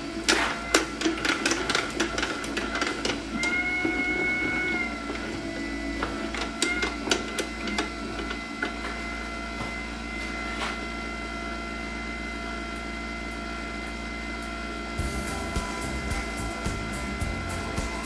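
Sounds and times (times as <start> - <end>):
milling machine whine: 0.0 - 18.0.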